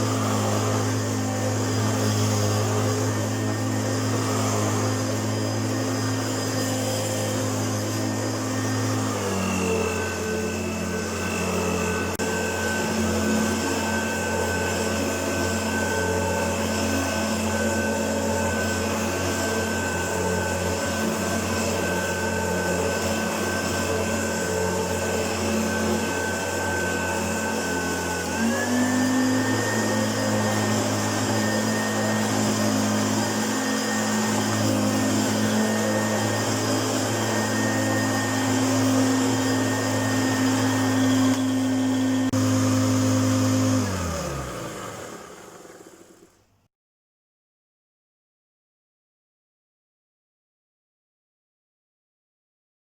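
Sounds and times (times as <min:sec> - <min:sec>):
upright vacuum cleaner running: 0:00.0 - 0:46.6.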